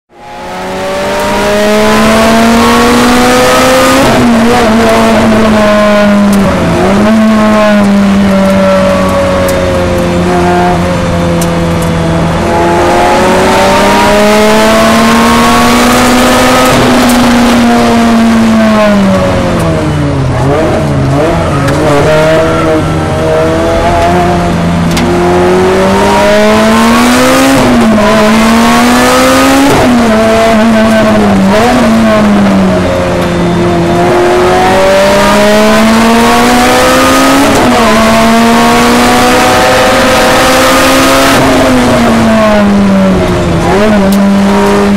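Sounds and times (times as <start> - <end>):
race car engine revving: 0.1 - 44.9.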